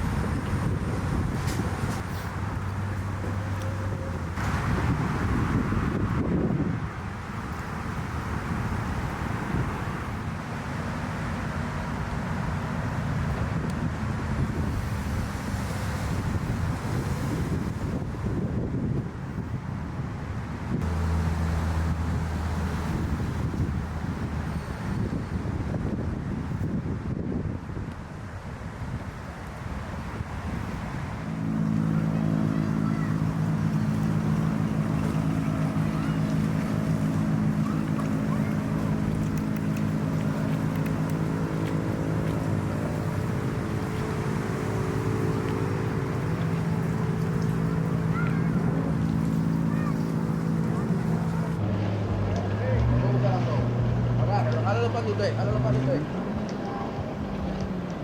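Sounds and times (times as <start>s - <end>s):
engine humming: 0.0s - 19.4s, 20.7s - 26.0s, 29.4s - 58.0s
wind buffeting microphone: 0.0s - 58.0s.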